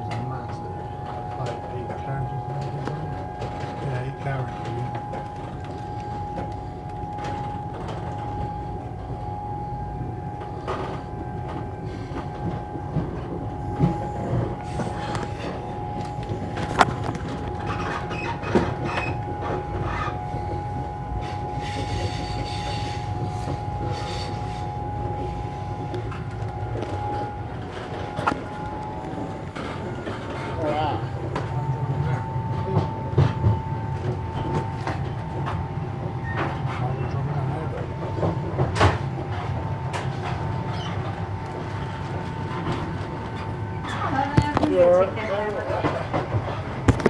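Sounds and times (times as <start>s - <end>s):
steady whine: 0.0s - 47.0s
train rumble inside carriage: 0.0s - 47.0s.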